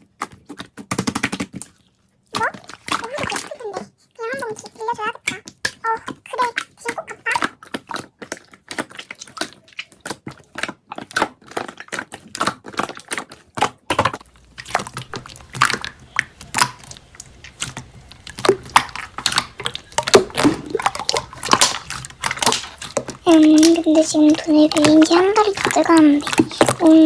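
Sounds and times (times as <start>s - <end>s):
slime squished by hand: 0.0s - 27.0s.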